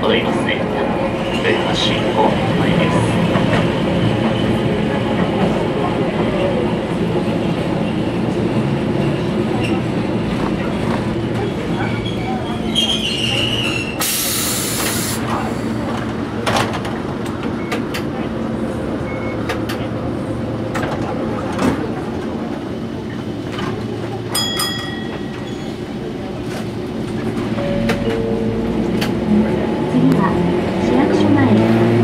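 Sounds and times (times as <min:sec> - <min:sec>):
tram equipment humming: 0:00.0 - 0:32.0.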